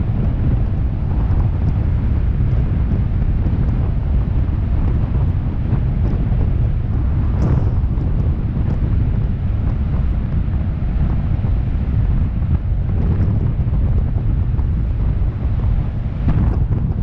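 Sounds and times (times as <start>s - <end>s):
tyre and road noise: 0.0s - 17.0s
wind buffeting microphone: 0.0s - 17.0s.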